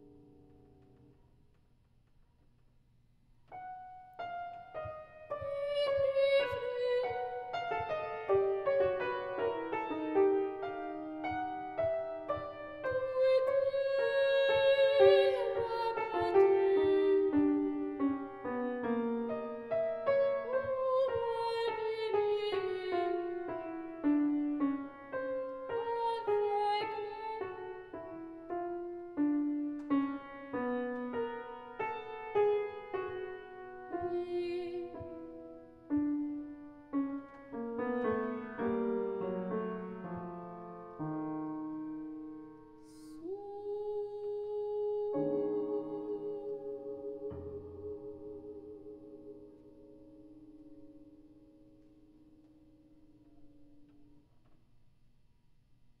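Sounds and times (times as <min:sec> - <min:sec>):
solo piano playing: 0:03.5 - 0:54.2.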